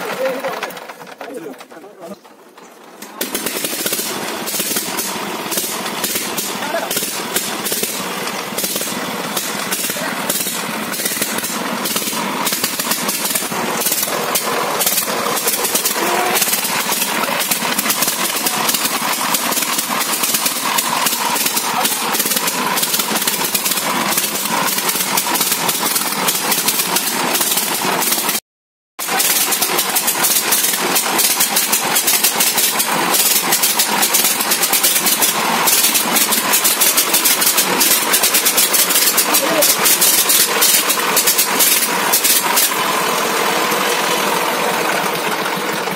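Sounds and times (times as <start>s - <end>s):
diesel engine knocking: 0.0s - 28.4s, 29.0s - 45.9s.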